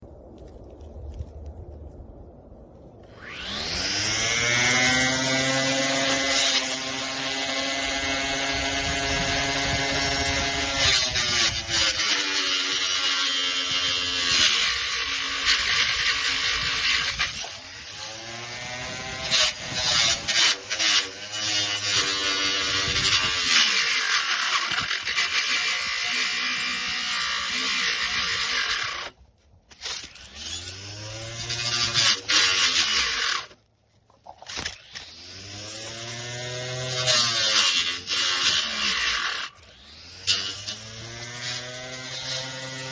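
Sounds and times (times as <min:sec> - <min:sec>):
electric trimmer motor whining: 0:03.1 - 0:29.1, 0:29.8 - 0:33.6, 0:34.5 - 0:42.9.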